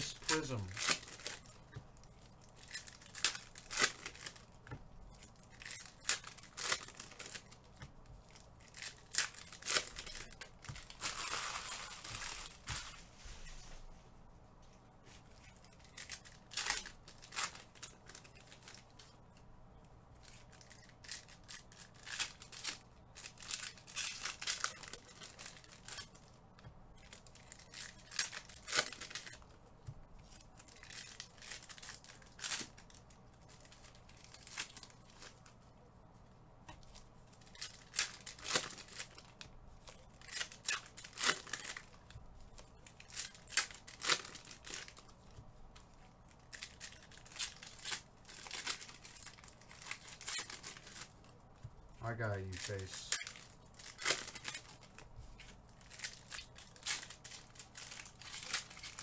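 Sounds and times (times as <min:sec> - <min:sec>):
wrappers tearing and crinkling: 0:00.0 - 0:13.2, 0:15.4 - 0:19.1, 0:20.2 - 0:26.4, 0:27.0 - 0:29.6, 0:30.2 - 0:35.6, 0:36.8 - 0:51.4, 0:52.0 - 0:59.0.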